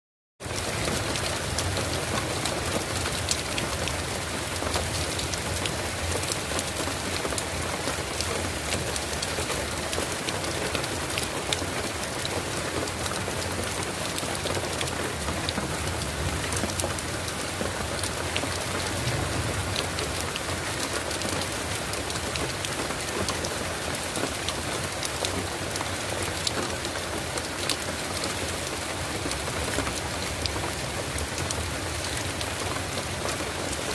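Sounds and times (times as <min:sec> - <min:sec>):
heavy rain pattering: 0:00.4 - 0:33.9.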